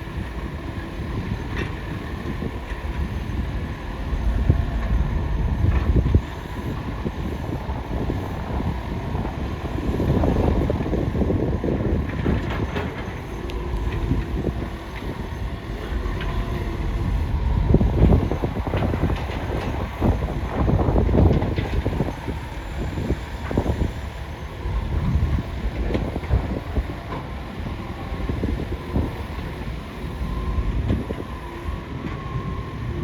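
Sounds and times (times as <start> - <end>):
excavator rumbling: 0.0 - 33.0.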